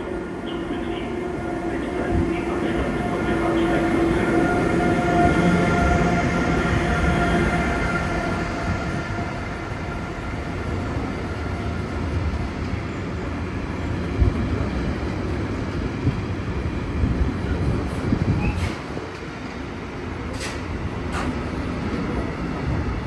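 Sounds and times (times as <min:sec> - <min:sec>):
low train rumble: 0:00.0 - 0:23.0
train whine: 0:00.0 - 0:23.0.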